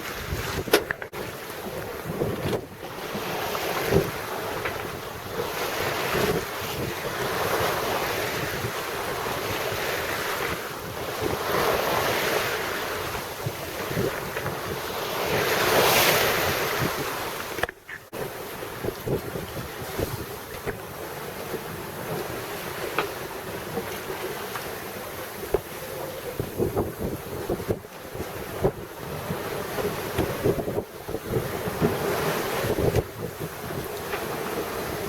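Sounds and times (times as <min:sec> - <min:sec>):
waves rushing along hull: 0:00.0 - 0:35.0
wind buffeting microphone: 0:00.0 - 0:35.0.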